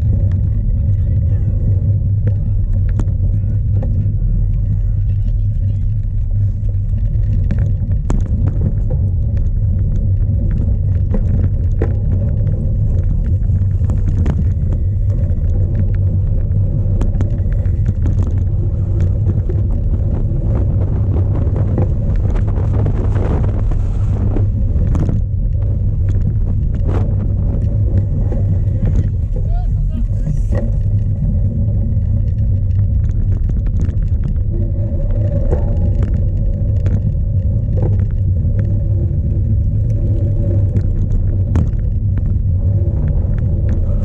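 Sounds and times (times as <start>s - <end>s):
bike clicks and rattles: 0.0s - 44.0s
wind rumble while riding: 0.0s - 44.0s.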